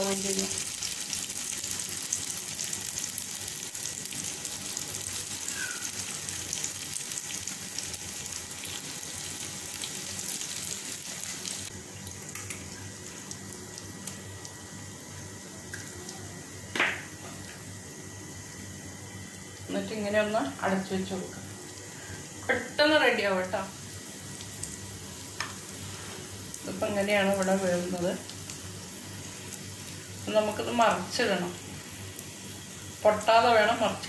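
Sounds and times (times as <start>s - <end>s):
oil sizzling in a pan: 0.0s - 34.0s.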